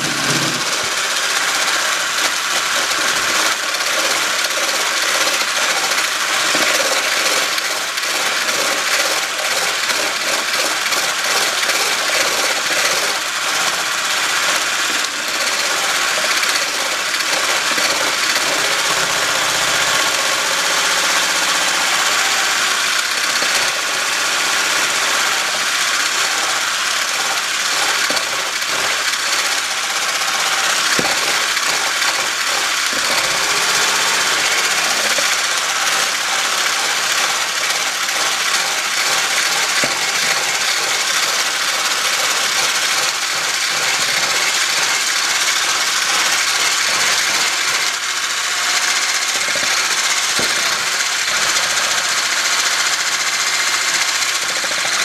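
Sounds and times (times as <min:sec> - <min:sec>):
immersion blender whipping cream: 0:00.0 - 0:55.0.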